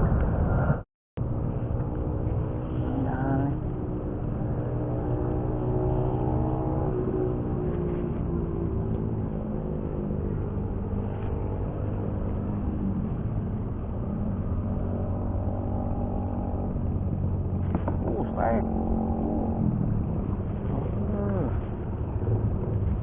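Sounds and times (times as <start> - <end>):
road traffic rumble: 1.2 - 23.0
vehicle engines humming: 1.2 - 23.0.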